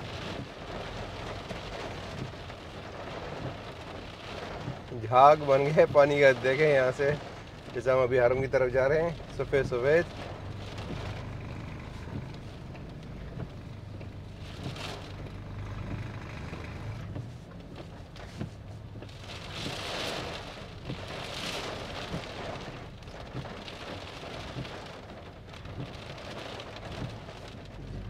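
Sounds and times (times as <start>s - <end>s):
engine and road hum: 0.0s - 28.0s
rain on a car: 0.0s - 28.0s.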